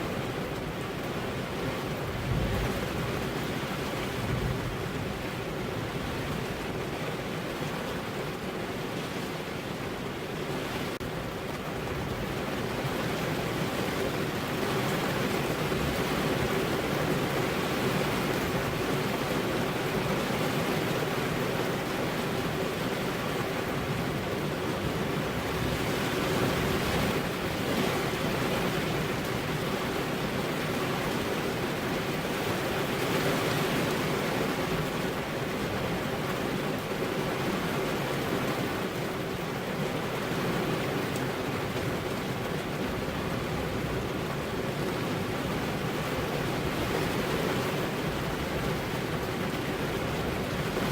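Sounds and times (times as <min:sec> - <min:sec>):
steady rain hiss: 0:00.0 - 0:50.9.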